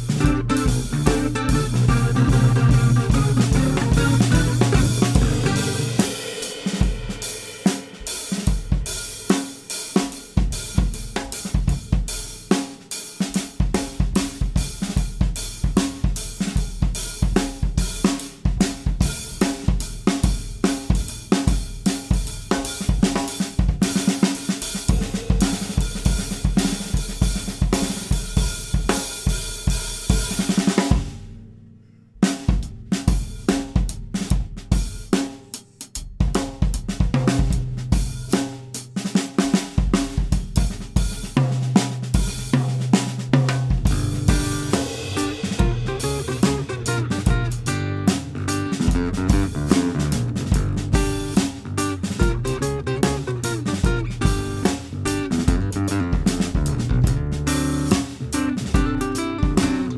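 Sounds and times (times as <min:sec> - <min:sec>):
drum kit played busily: 0:00.0 - 0:31.6, 0:32.2 - 0:59.9.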